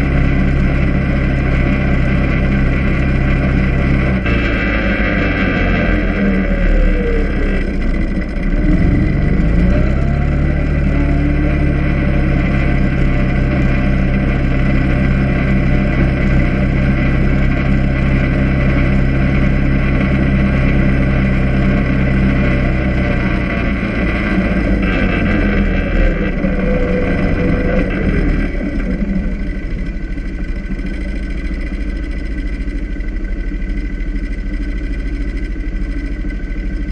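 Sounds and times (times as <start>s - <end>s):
quad engine pulling away: 0.0s - 36.9s.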